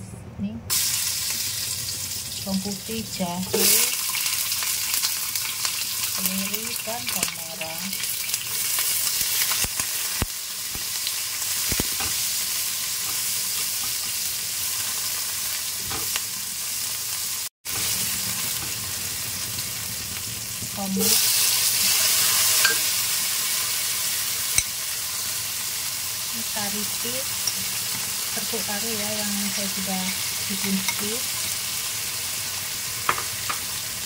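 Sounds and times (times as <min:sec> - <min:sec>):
onions sizzling in oil: 0:00.7 - 0:34.0.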